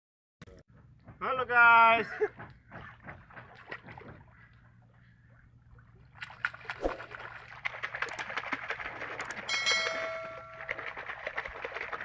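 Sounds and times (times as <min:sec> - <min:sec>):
water splashing and sloshing: 0:02.2 - 0:12.0.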